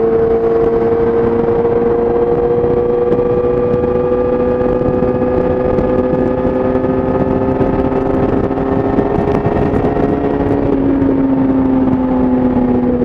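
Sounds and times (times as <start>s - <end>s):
motorcycle engine at high revs: 0.0s - 13.0s
rushing wind noise: 0.0s - 13.0s.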